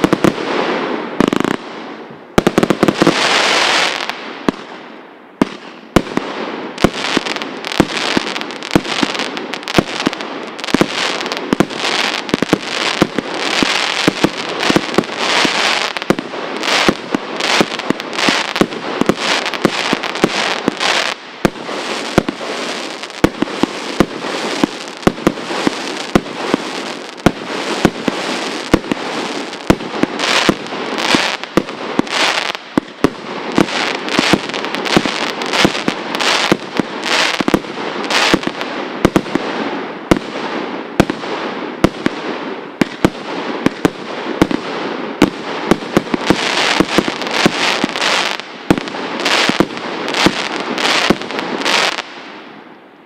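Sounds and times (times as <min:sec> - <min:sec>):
firework bangs and crackling: 0:00.0 - 0:52.8.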